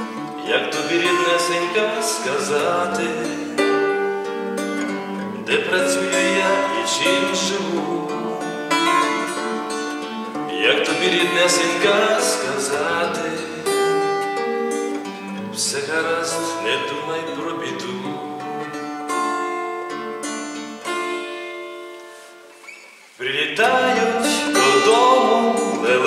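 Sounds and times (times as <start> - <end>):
plucked string instrument music: 0.0 - 22.6, 23.5 - 26.0.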